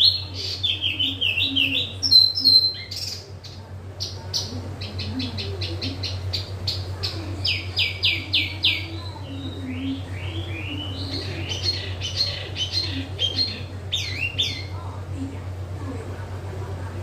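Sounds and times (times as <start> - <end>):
songbird chirping: 0.0 - 15.1.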